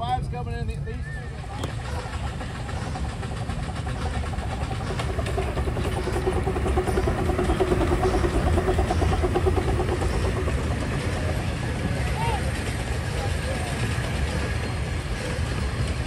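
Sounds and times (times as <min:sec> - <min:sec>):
steam locomotive rumbling past: 0:01.3 - 0:16.0.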